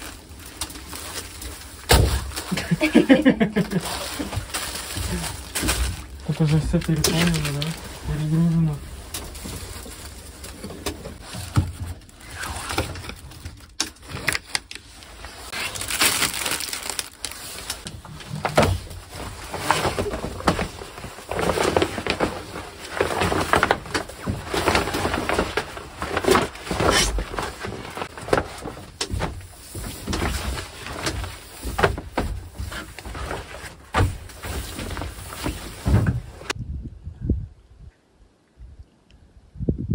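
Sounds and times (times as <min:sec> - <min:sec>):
oilcloth crinkling and rustling: 0:00.0 - 0:36.6.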